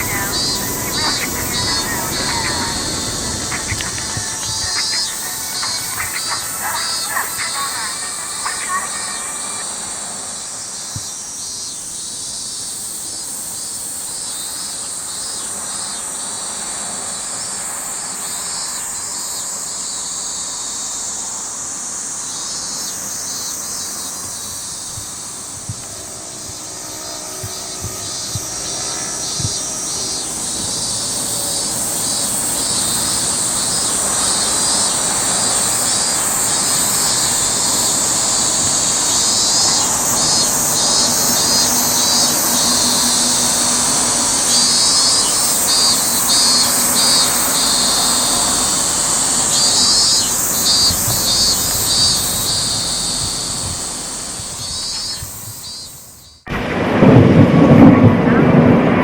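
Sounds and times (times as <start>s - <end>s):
rhythmic pulsing insect calls: 0.0s - 56.5s
insects chorus: 0.0s - 59.0s.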